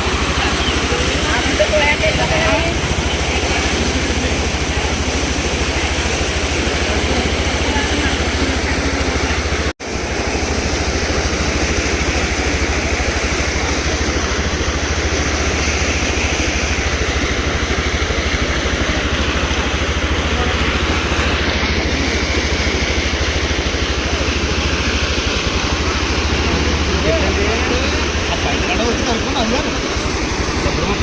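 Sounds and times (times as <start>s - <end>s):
even rushing noise: 0.0s - 31.0s
motorcycle engine running: 0.0s - 31.0s.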